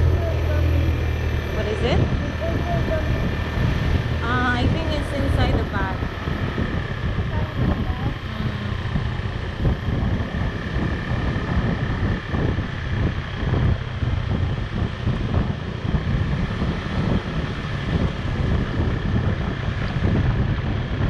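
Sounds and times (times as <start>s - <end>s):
motorbike engine rumble: 0.0s - 21.0s
wind buffeting microphone: 0.0s - 21.0s.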